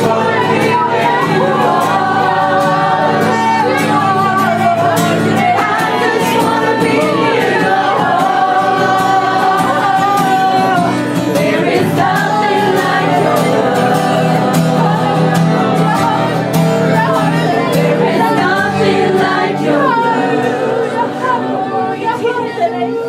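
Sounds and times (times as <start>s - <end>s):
worship music with singing: 0.0s - 23.0s.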